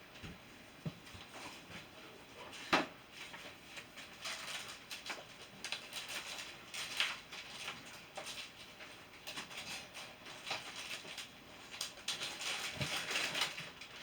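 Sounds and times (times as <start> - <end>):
objects rustling and knocking: 0.1 - 14.0.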